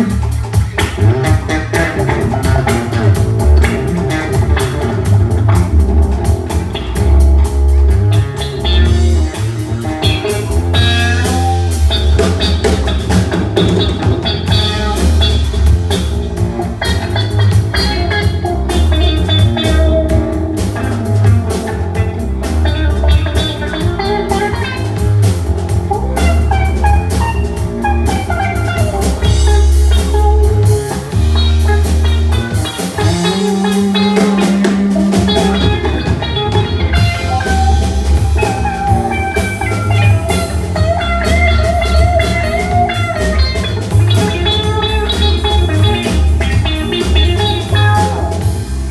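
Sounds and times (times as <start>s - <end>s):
drum kit steady beat: 0.0s - 48.9s
guitar: 0.0s - 48.9s.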